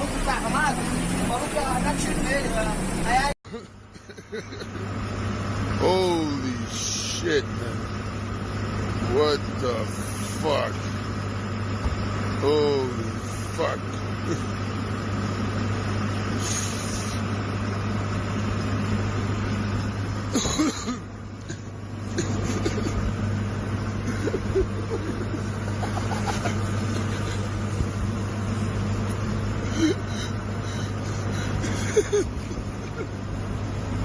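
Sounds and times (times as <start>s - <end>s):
car engine hum: 0.0s - 34.0s
road noise: 0.0s - 34.0s.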